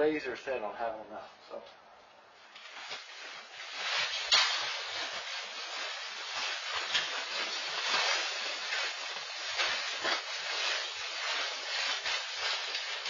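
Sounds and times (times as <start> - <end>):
perlite pouring from plastic bag: 2.5 - 13.0.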